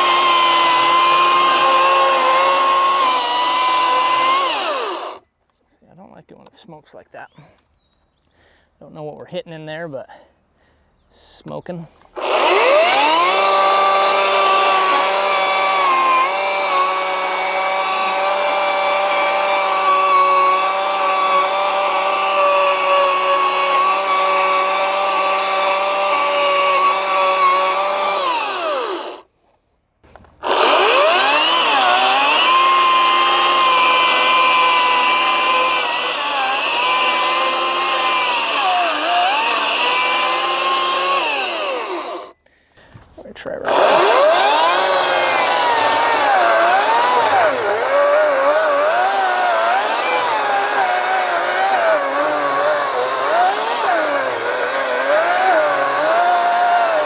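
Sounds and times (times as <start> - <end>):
battery chainsaw cutting stump: 0.0 - 5.2, 12.1 - 29.3, 30.1 - 42.4, 43.6 - 57.0.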